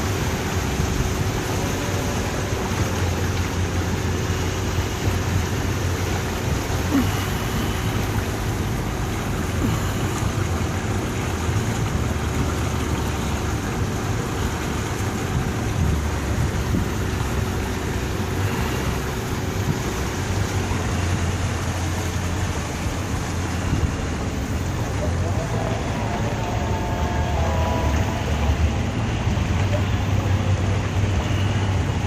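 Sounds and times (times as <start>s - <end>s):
boat engine running: 0.0s - 32.0s
faint steady hum: 0.0s - 32.0s
water wash: 0.0s - 32.0s.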